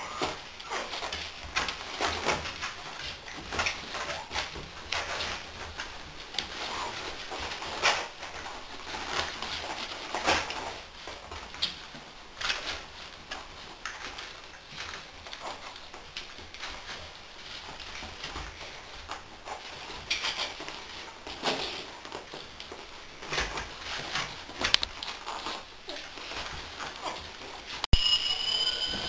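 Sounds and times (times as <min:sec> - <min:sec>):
puppy claws scratching and tapping: 0:00.2 - 0:27.8.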